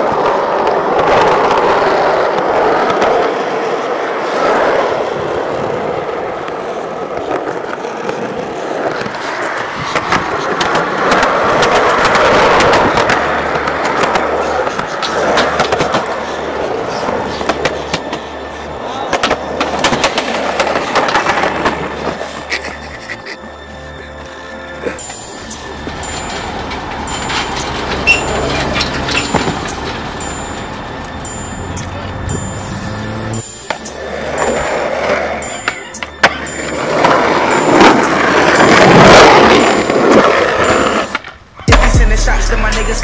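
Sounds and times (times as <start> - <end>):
skateboard clacks on ground: 0.0 - 22.6, 25.0 - 31.9, 33.6 - 41.8
skateboard wheels rolling on concrete: 0.0 - 43.0.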